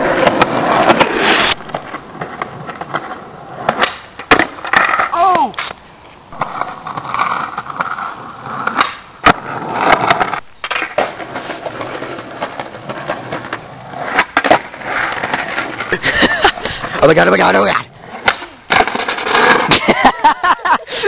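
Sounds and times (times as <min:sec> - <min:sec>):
skateboard clacking on pavement: 0:00.0 - 0:15.9, 0:16.7 - 0:19.7
skateboard wheels rolling on asphalt: 0:00.0 - 0:21.0.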